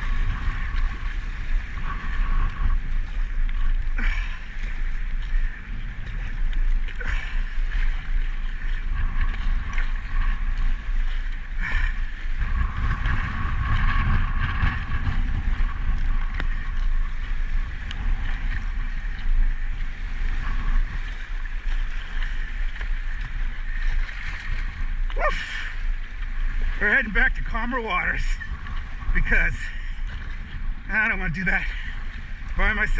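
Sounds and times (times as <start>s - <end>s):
sharp water splashes: 0.0s - 32.9s
water slapping against kayak hull: 0.0s - 32.9s
wind buffeting microphone: 0.0s - 32.9s.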